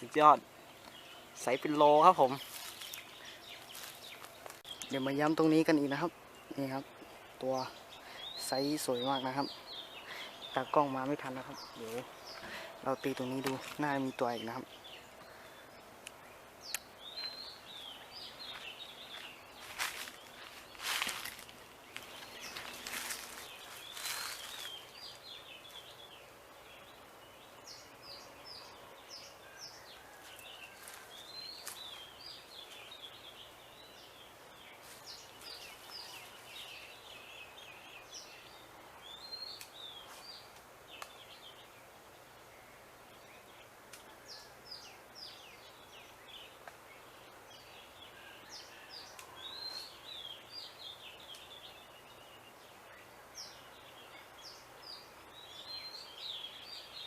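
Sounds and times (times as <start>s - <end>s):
faint outdoor background noise: 0.0s - 57.0s
small birds chirping: 0.0s - 57.0s.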